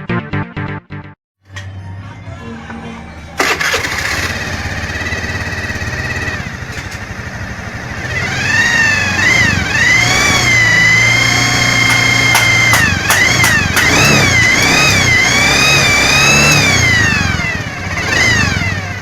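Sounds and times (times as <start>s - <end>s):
scooter engine running: 3.3s - 19.0s.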